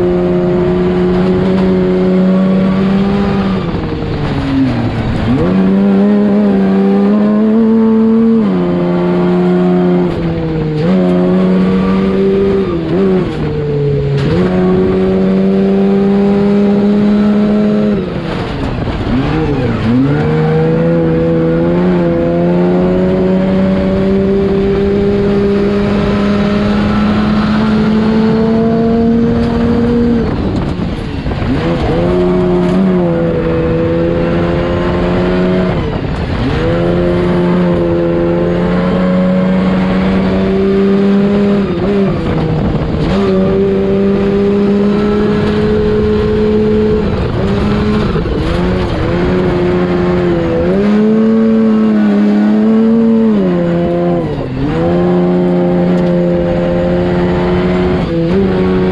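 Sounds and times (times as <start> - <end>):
race truck engine revving: 0.0 - 58.9.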